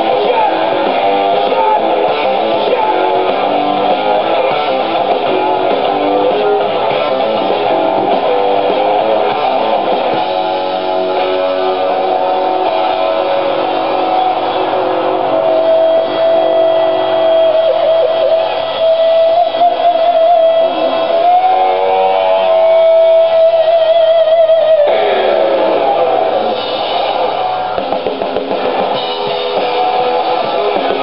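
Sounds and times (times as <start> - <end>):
live rock music: 0.0 - 31.0.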